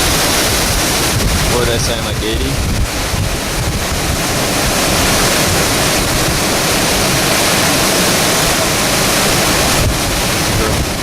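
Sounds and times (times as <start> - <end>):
strong wind on microphone: 0.0 - 11.0
surf: 0.0 - 11.0.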